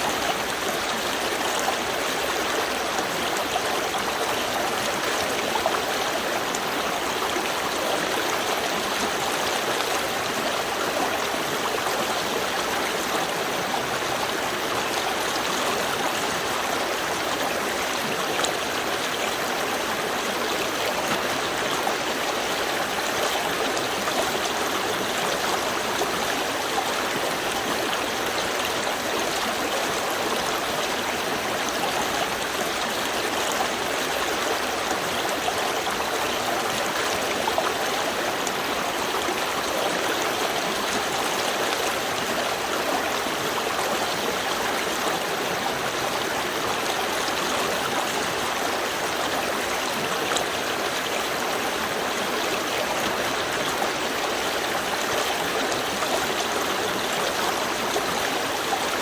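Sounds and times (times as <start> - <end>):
stream water rushing and trickling: 0.0 - 59.0.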